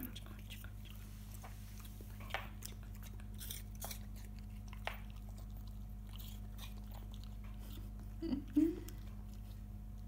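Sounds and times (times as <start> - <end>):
puppy crunching apple: 0.0 - 10.0.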